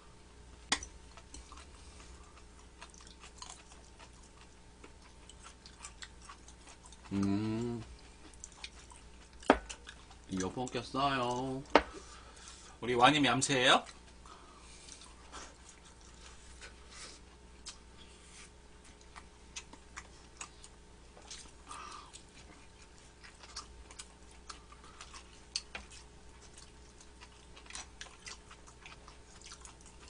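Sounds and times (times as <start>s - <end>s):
soft chewing: 0.7s - 12.8s, 13.6s - 30.0s.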